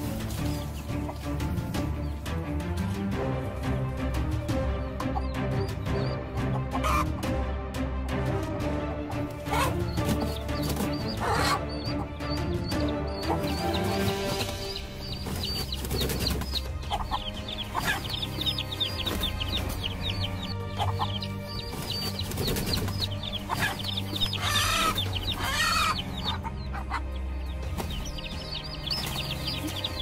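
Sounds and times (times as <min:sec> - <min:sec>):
chicks peeping: 0:00.0 - 0:02.9, 0:04.2 - 0:07.3, 0:08.8 - 0:30.0
background music with drone: 0:00.0 - 0:30.0
hen clucking and squawking: 0:04.6 - 0:07.4, 0:08.6 - 0:30.0.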